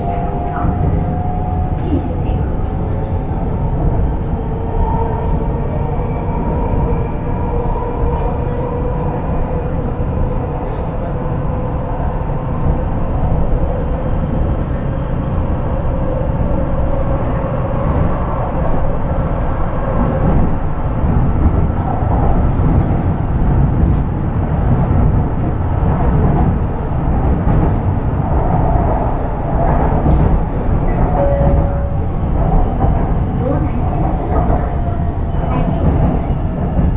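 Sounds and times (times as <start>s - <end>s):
electric train rumbling inside car: 0.0s - 36.9s.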